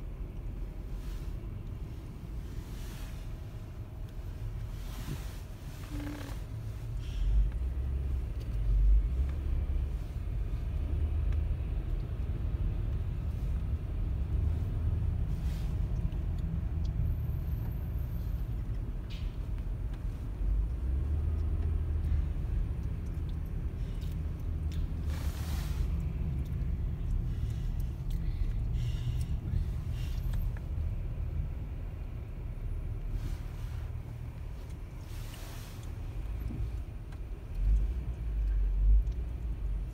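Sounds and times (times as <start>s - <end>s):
car rumble from inside: 0.0s - 39.9s.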